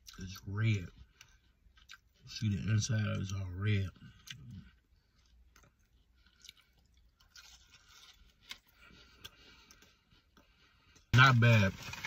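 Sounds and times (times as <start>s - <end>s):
faint chewing: 0.0s - 11.1s.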